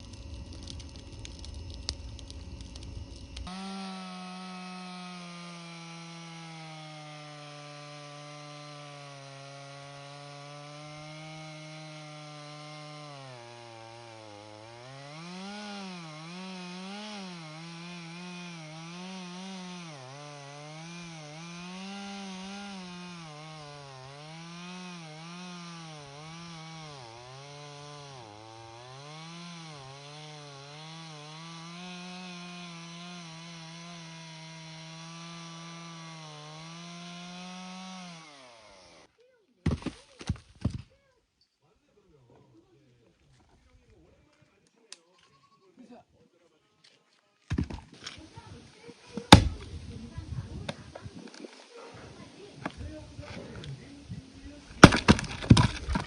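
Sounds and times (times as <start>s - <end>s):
chainsaw cutting wood: 0.0s - 39.1s, 47.5s - 56.0s.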